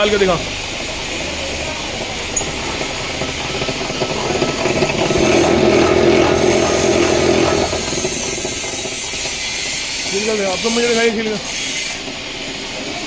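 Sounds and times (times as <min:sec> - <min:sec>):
wire stripping machine running: 0:00.0 - 0:13.0.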